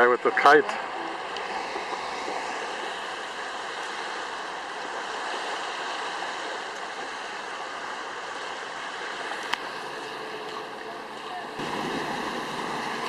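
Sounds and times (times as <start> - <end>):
waves rushing: 0.0 - 13.0.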